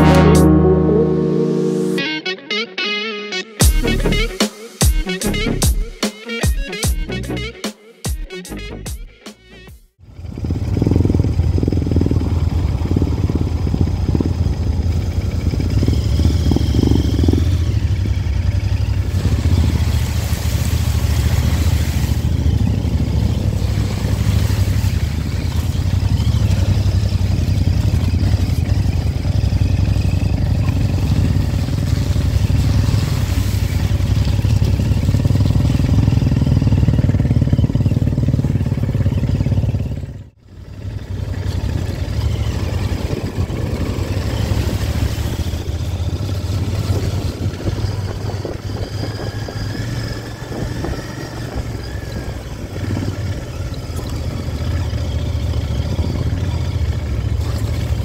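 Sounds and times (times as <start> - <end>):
motorcycle engine running: 10.0 - 58.0.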